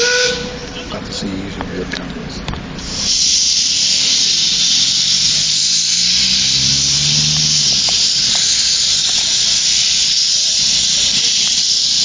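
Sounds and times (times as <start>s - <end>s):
steam locomotive hissing: 0.0s - 1.2s, 2.8s - 12.0s.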